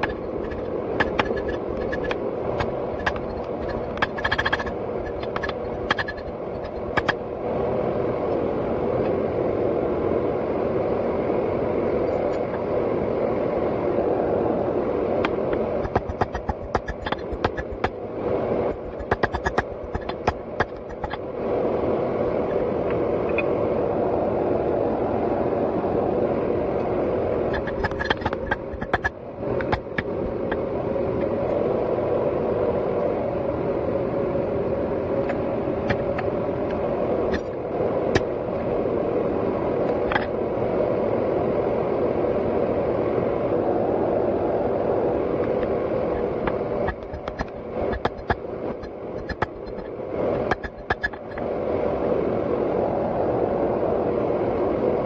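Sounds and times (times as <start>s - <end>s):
steady roaring noise: 0.0s - 55.0s.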